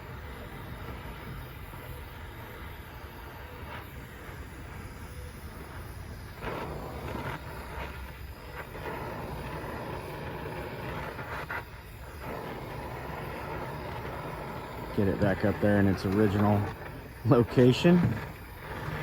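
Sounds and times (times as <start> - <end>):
torch flame roaring: 0.0 - 19.0.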